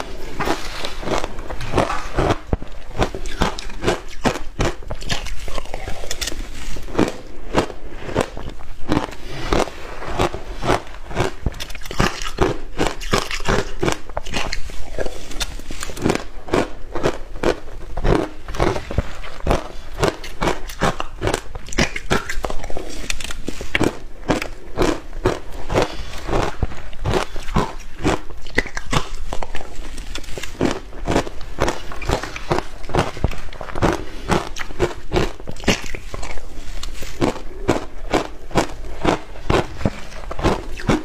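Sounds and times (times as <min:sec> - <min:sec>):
crunching ice while chewing: 0:00.0 - 0:41.0.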